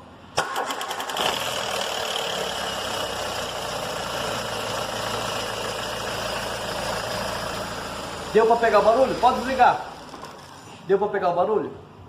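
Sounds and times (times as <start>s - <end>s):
car engine idling: 0.4s - 10.7s.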